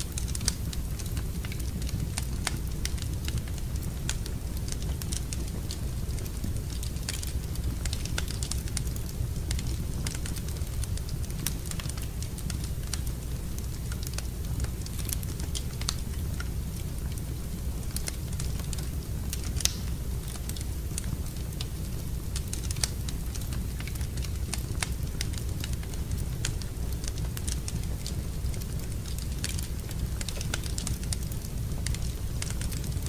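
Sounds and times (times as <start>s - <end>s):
fireplace fire crackling: 0.0s - 33.0s.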